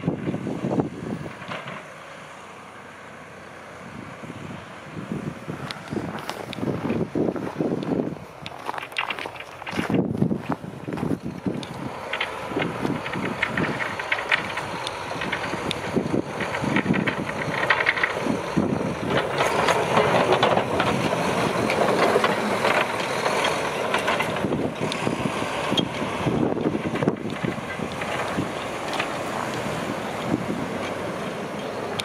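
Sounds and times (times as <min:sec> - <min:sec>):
snowplow truck diesel engine: 0:00.0 - 0:32.0
plow blades scraping snow: 0:00.2 - 0:32.0.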